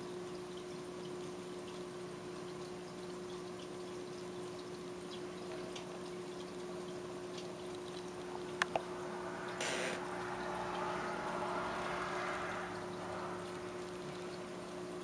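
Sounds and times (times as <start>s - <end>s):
aquarium water bubbling: 0.0s - 15.0s
low electric hum: 0.2s - 15.0s.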